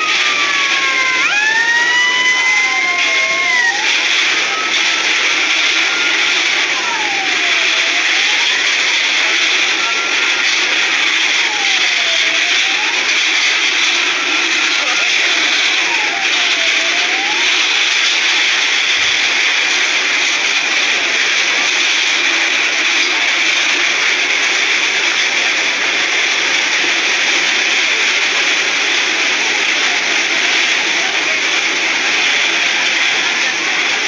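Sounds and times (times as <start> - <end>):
building fire roaring: 0.0 - 34.0
faint siren wailing: 0.0 - 34.0.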